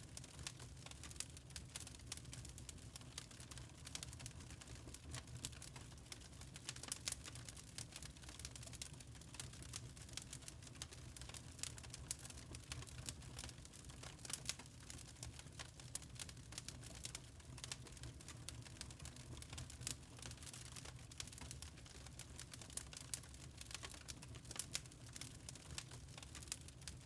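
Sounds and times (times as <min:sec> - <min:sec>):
charcoal crackling and popping: 0:00.0 - 0:27.0.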